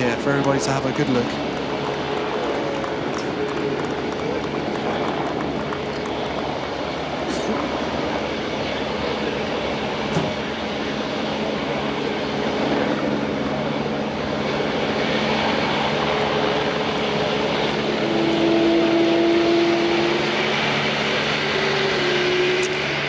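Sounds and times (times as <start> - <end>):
jet engine roar: 0.0 - 23.0
jet engine whine: 0.0 - 23.0.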